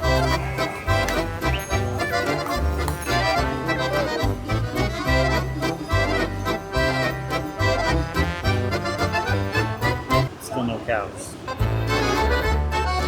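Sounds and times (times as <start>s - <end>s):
accordion playing folk tune: 0.0s - 13.0s.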